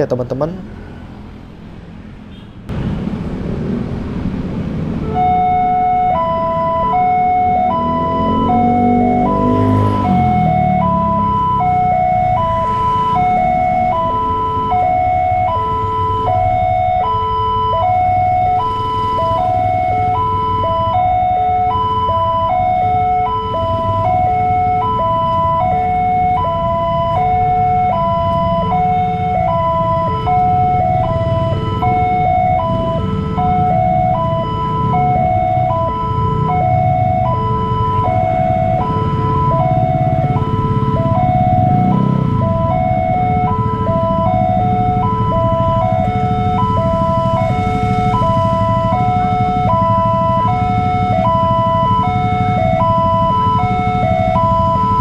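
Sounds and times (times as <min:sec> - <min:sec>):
idling engines rumble: 0:02.7 - 0:55.0.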